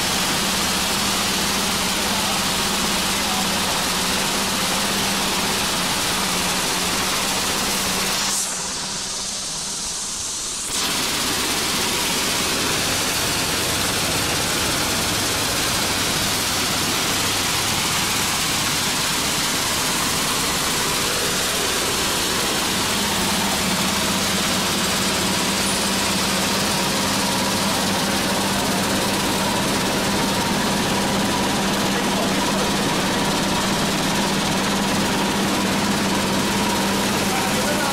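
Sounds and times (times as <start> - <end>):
steady machine hum: 0.0 - 37.9
vibrating sieve machine rushing: 0.0 - 37.9.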